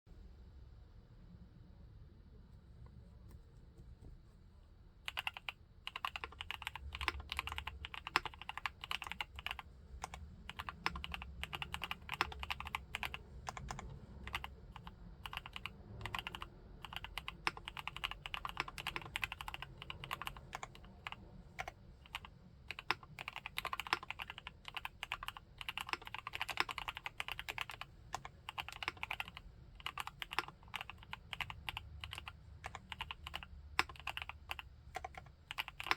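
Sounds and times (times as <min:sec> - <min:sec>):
mechanical keyboard typing: 0:05.1 - 0:35.9.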